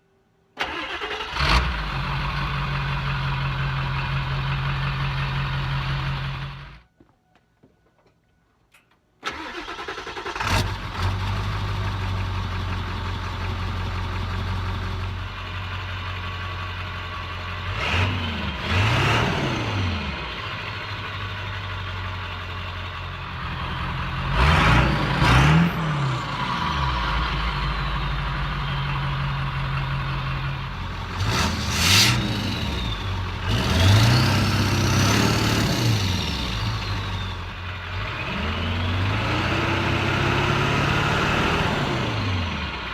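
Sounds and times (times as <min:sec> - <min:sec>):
diesel engine idling: 0:00.6 - 0:06.8, 0:09.3 - 0:42.9.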